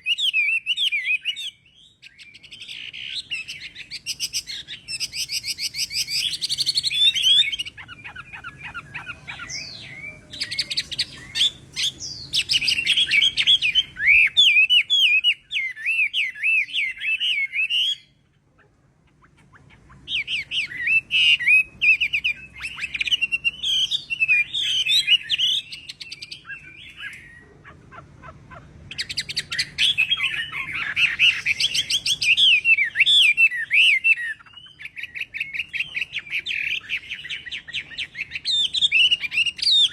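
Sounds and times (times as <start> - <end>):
bird singing whistled trills: 0.0 - 18.3, 19.2 - 27.5, 28.9 - 39.9.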